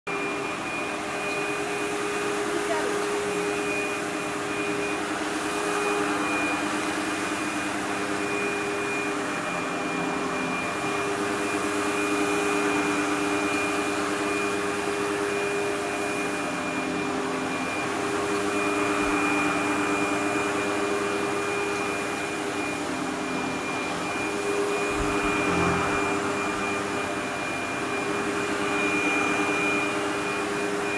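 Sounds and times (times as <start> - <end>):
vacuum cleaner motor whining: 0.1 - 30.9.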